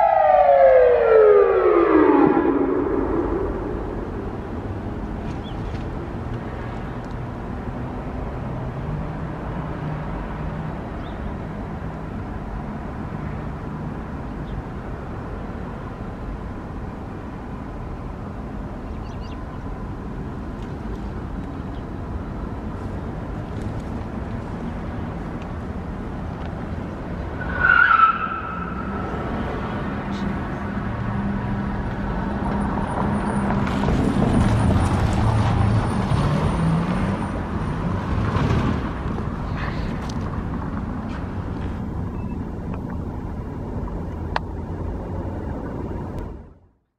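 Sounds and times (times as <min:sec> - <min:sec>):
road traffic: 0:00.0 - 0:46.9.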